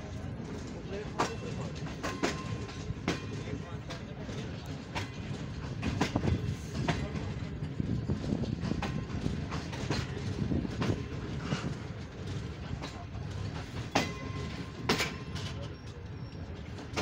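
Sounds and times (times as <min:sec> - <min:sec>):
clacks over rail joints: 0:00.0 - 0:17.0
train coach creaking: 0:00.0 - 0:17.0
train wheels rumbling on rails: 0:00.0 - 0:17.0.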